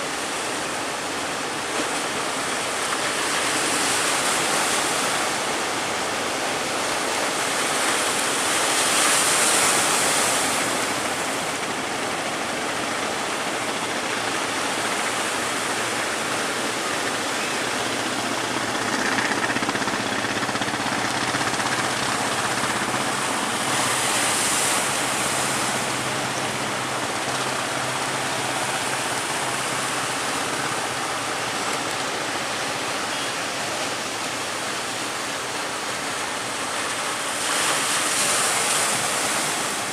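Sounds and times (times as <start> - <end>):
boat engine hum: 0.0 - 39.9
sea surf breaking: 0.0 - 39.9.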